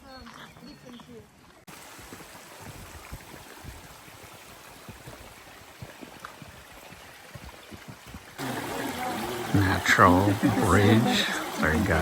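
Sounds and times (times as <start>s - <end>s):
stream water rushing: 1.7s - 12.0s.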